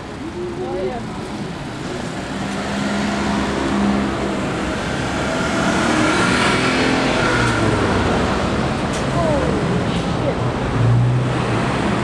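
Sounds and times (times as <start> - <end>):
bus engine pulling away: 0.0 - 12.0
cars driving through: 0.0 - 12.0.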